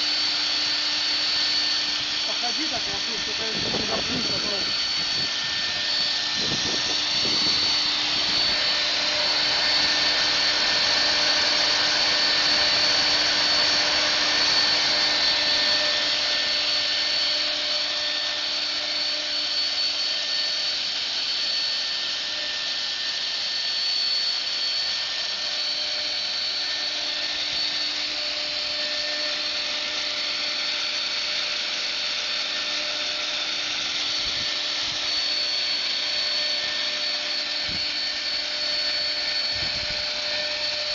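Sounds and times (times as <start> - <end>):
milling machine spindle whine: 0.0 - 40.9.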